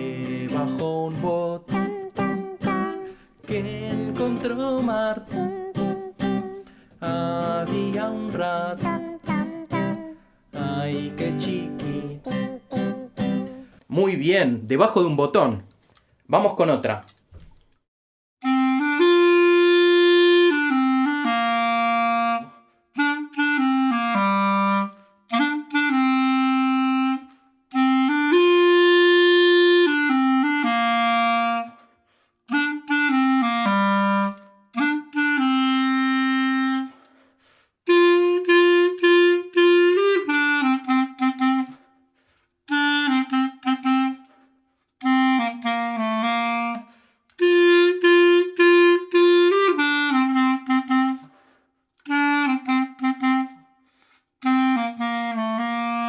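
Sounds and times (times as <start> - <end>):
clarinet playing a melody: 0.0 - 13.8, 18.4 - 31.9, 32.5 - 37.1, 37.9 - 42.0, 42.7 - 53.8, 54.4 - 56.0.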